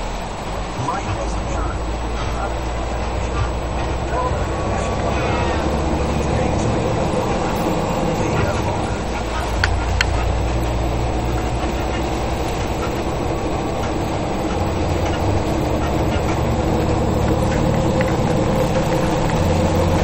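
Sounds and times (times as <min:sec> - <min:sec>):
rain hissing on windshield: 0:00.0 - 0:20.0
truck engine and road drone: 0:00.0 - 0:20.0.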